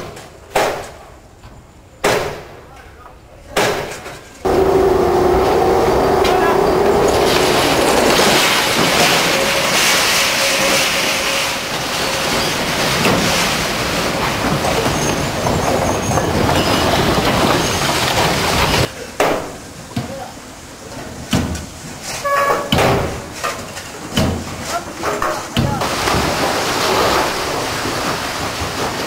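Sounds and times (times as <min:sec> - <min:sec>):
train wheels on rail: 0:03.8 - 0:29.0.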